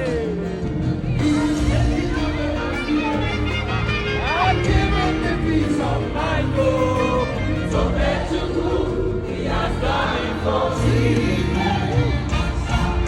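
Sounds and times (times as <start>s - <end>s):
gospel choir singing: 0.0s - 13.0s
instrumental backing: 0.0s - 13.0s.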